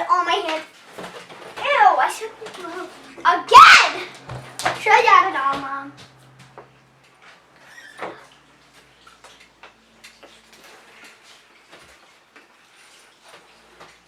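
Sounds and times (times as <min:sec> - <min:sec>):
utensils clicking and tapping bowl: 0:00.3 - 0:11.8.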